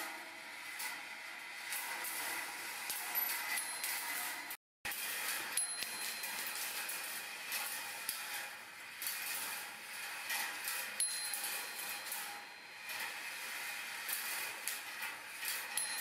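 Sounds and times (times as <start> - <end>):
chain lift running: 0.7 - 16.0
marbles clicking on wire track: 0.8 - 16.0.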